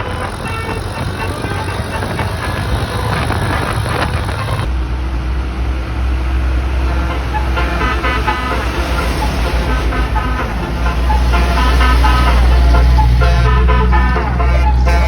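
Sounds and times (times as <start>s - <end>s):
multi-tone horn tune: 0.0s - 4.7s, 6.8s - 15.0s
bus engine rumbling: 0.0s - 15.0s.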